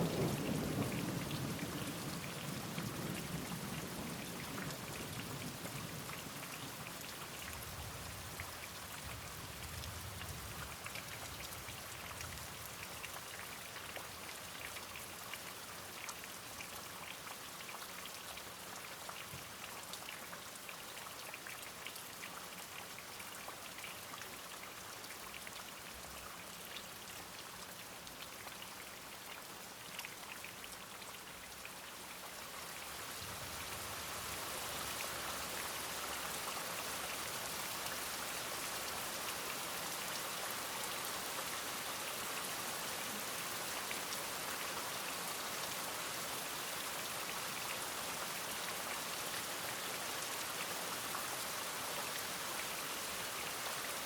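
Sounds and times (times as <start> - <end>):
rain falling on surfaces: 0.0 - 54.0.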